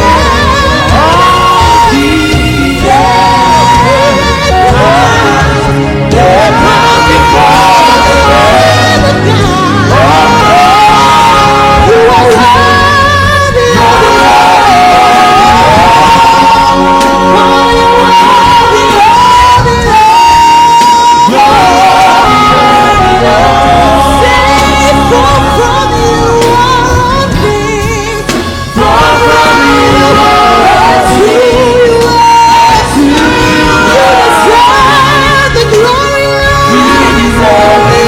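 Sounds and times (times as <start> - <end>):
band accompaniment: 0.0 - 38.0.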